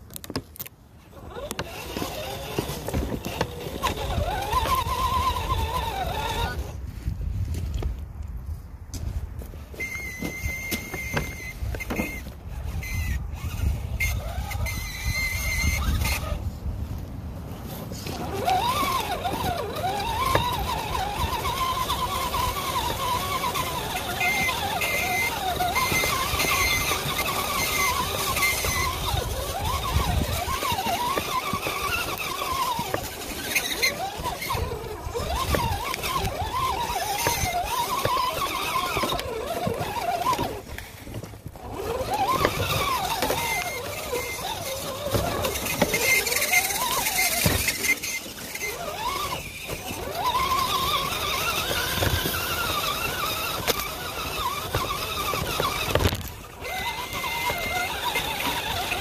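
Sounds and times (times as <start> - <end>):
electric motor and gears whining: 0.0 - 59.0
tyres crunching on snowy gravel: 0.0 - 59.0.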